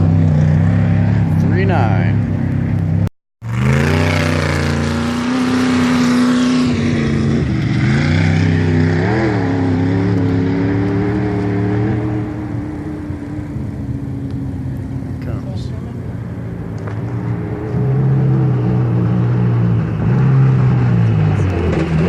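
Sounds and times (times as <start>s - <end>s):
engine running at high revs: 0.0s - 15.3s, 16.3s - 22.0s.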